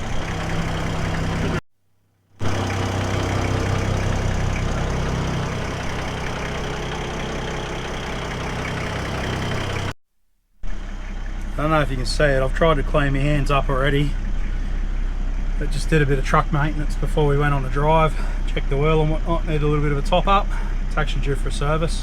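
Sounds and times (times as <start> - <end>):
engine running steadily: 0.0 - 1.6, 2.4 - 10.0, 10.6 - 22.0.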